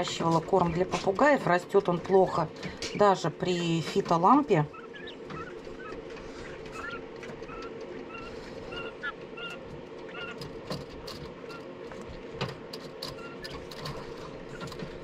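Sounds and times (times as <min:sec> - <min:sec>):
chicks chirping softly: 0:00.0 - 0:12.4
steady low hum: 0:00.0 - 0:15.0.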